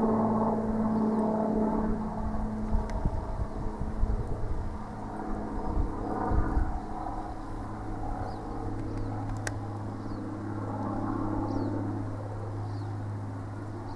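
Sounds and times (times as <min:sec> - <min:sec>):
steady low motor hum: 0:00.0 - 0:13.9.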